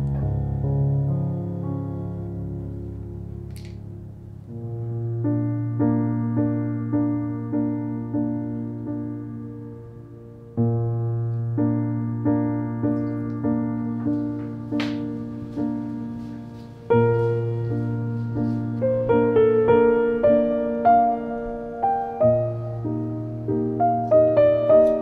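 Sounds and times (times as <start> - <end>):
soft piano music: 0.0 - 25.0.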